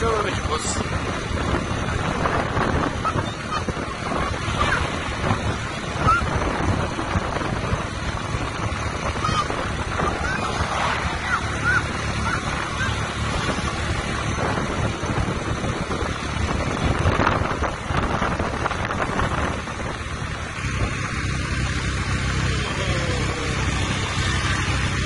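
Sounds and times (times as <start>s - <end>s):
wind buffeting microphone: 0.0s - 22.5s
vehicle engine running: 0.0s - 25.0s.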